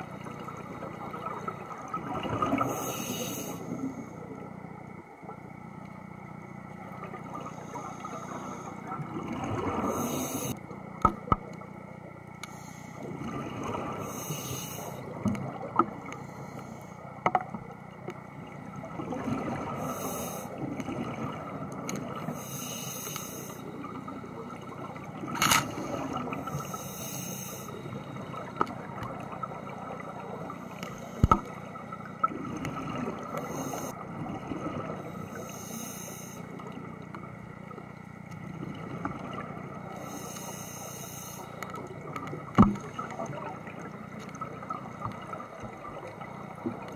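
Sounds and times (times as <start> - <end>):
exhaled bubbles underwater: 0.0 - 5.4, 6.7 - 11.7, 13.0 - 16.1, 17.4 - 22.6, 23.4 - 35.5, 36.5 - 40.4, 41.5 - 46.9
steady low hum: 0.0 - 46.9.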